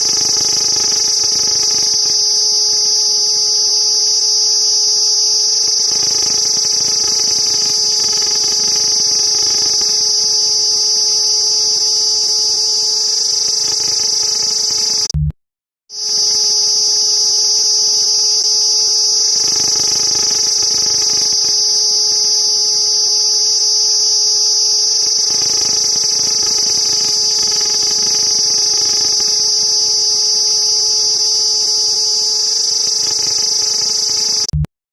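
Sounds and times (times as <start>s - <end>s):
cicadas buzzing: 0.0s - 15.1s, 16.0s - 34.5s.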